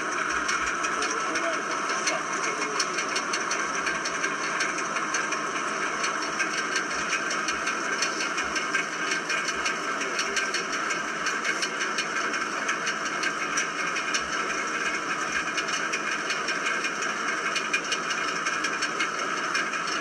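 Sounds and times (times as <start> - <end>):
car engine running: 0.0 - 20.0
fast irregular engine ticking: 0.0 - 20.0.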